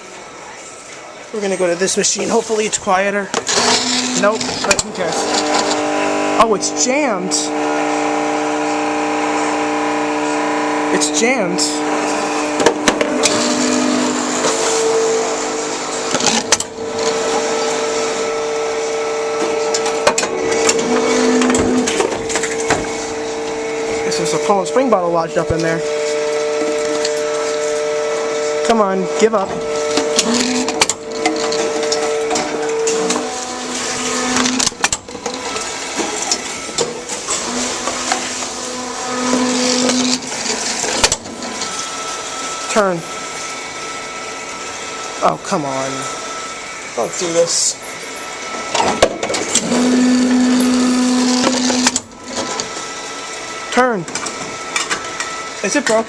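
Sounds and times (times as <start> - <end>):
vending machine humming: 0.0 - 56.0.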